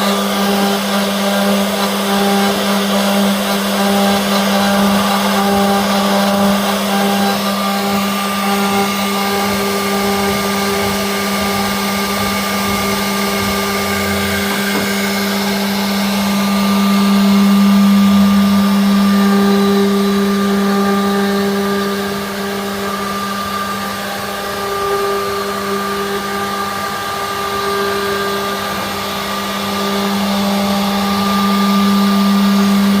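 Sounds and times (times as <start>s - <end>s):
sawmill machinery humming: 0.0s - 33.0s.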